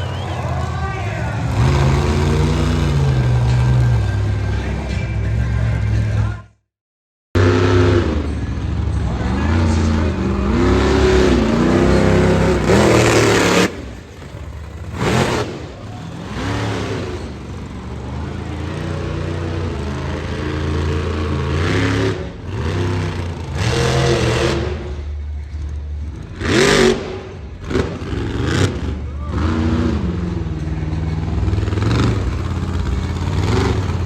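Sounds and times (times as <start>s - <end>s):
monster truck engine revving: 0.0s - 6.3s, 7.4s - 34.0s.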